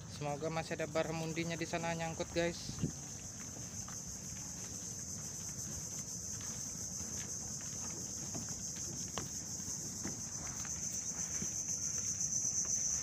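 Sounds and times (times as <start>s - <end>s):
insects droning: 0.0s - 13.0s
footsteps on wooden planks: 1.0s - 13.0s.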